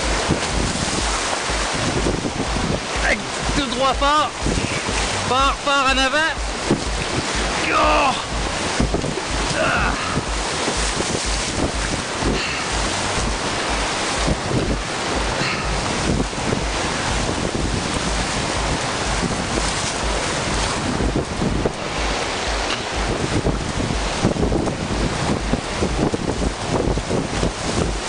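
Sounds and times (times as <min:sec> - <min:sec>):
whitewater rapids rushing: 0:00.0 - 0:28.0
wind buffeting microphone: 0:00.0 - 0:28.0.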